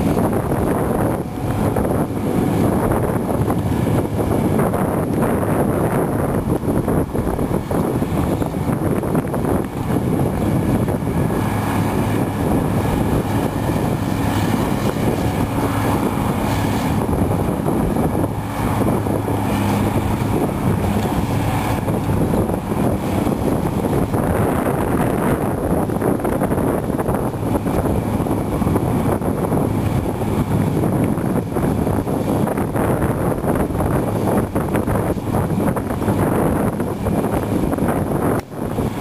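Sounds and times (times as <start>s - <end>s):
wind rumbling on microphone: 0.0s - 39.0s.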